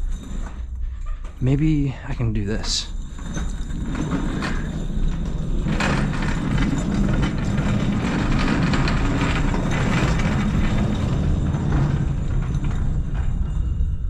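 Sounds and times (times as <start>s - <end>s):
cart rumbling on rails: 0.0s - 14.0s
rattling clatter: 0.0s - 14.0s.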